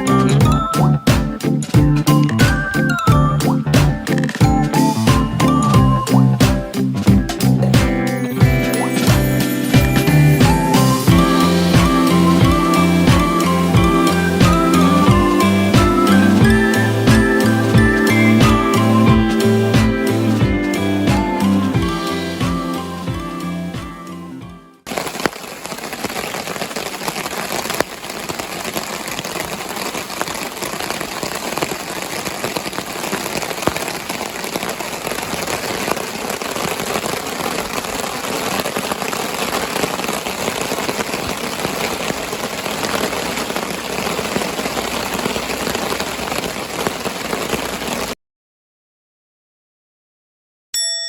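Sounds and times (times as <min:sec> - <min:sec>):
heavy rain pouring: 0:00.0 - 0:24.2, 0:24.8 - 0:48.2.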